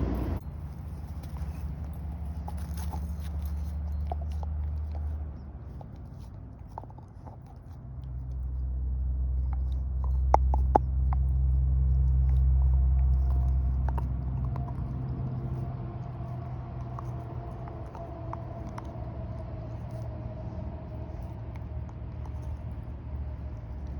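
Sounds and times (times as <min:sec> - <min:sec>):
vehicle engine passing by: 0:00.0 - 0:06.3, 0:07.7 - 0:23.9.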